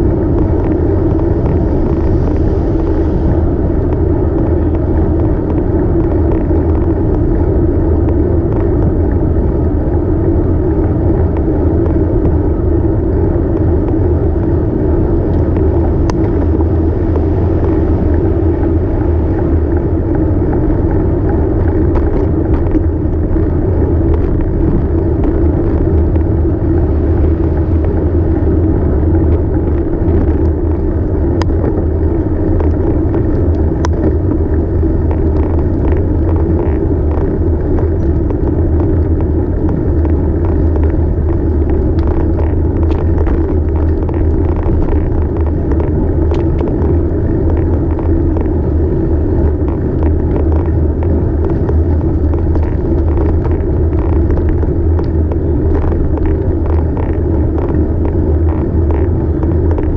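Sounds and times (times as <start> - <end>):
road rumble: 0.0 - 59.9
wind: 0.0 - 59.9
bicycle clicks and rattles: 3.8 - 59.9.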